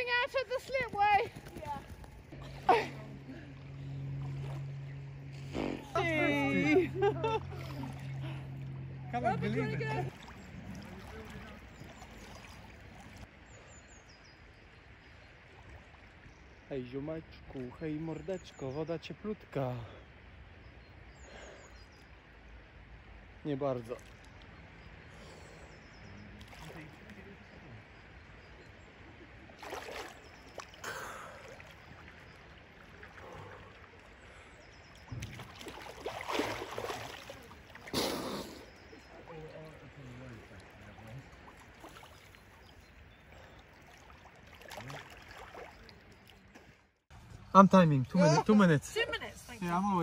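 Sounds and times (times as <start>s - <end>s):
river water flowing: 0.0s - 50.0s.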